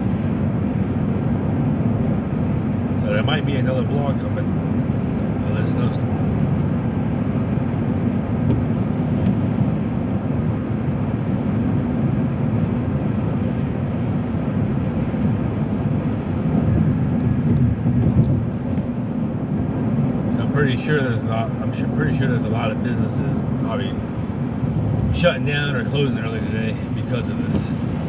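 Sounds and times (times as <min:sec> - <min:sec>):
car tyres and engine rumble: 0:00.0 - 0:28.0.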